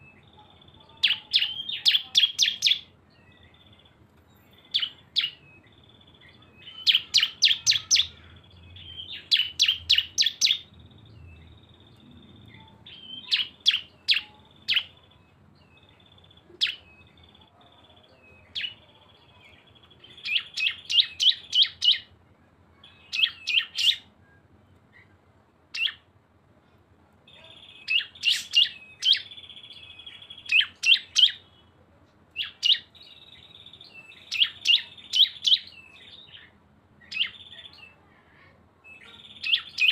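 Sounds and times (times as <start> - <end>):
songbirds chirping sharply: 0.0 - 39.9.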